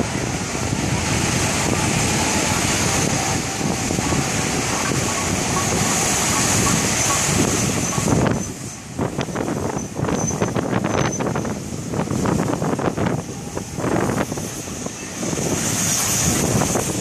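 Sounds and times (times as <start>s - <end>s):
steam train running past: 0.0s - 17.0s
waves washing up beach: 0.0s - 17.0s
wind buffeting microphone: 0.0s - 17.0s.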